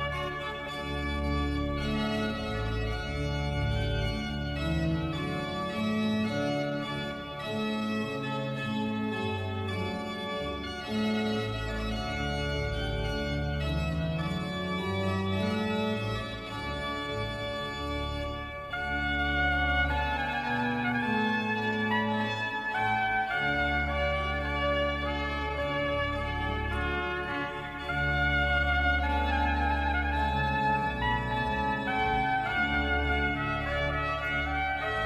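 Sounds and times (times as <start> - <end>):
instrumental music with bass line: 0.0 - 35.0.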